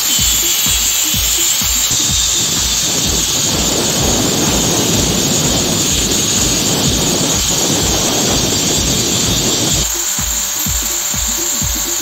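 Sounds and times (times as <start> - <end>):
angle grinder grinding metal: 0.0 - 12.0.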